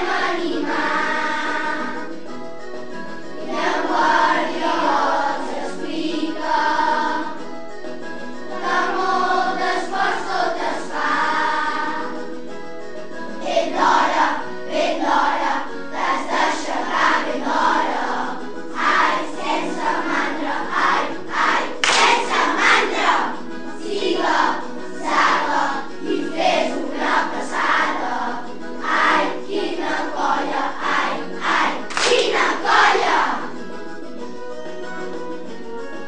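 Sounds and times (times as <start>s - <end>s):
children's choir singing: 0.0s - 33.8s
musical backing: 0.0s - 36.0s.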